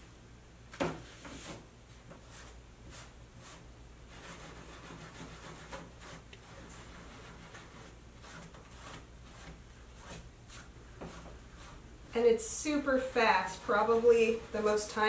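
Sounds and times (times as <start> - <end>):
sponge scrubbing wet paper: 2.2 - 11.9, 12.5 - 15.0.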